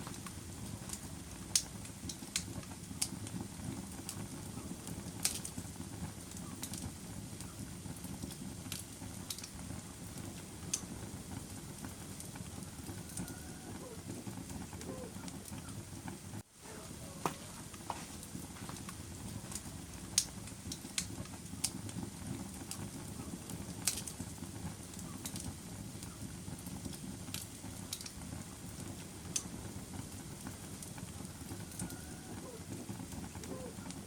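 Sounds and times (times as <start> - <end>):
wood fire burning: 0.0 - 34.0.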